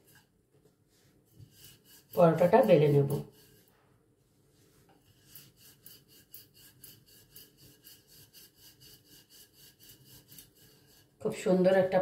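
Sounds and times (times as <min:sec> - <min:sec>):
rolling pin rubbing over dough: 0:00.9 - 0:03.8, 0:04.6 - 0:11.2.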